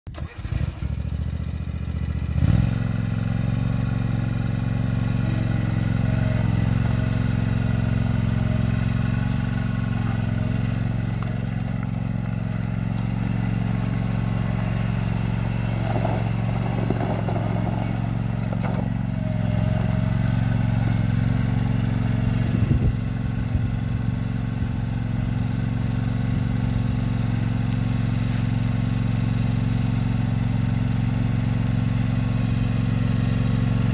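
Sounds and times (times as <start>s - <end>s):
mower engine running: 0.1s - 33.9s.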